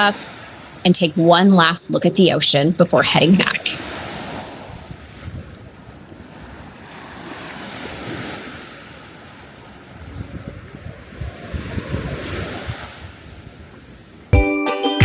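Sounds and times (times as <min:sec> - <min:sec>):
ocean surf washing in: 0:00.0 - 0:14.4
wind buffeting microphone: 0:01.6 - 0:14.3.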